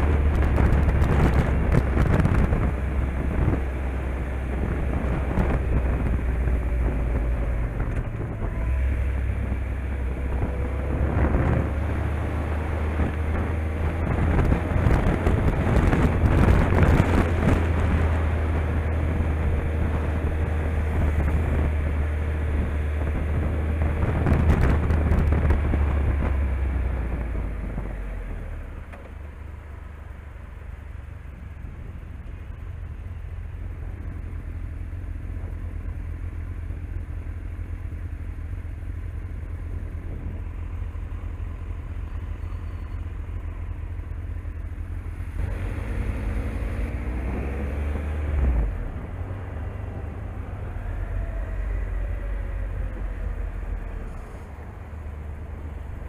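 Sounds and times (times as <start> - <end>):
wind noise on microphone: 0.0 - 29.5, 39.0 - 43.9, 45.1 - 56.0
motorcycle engine rumbling: 0.0 - 56.0.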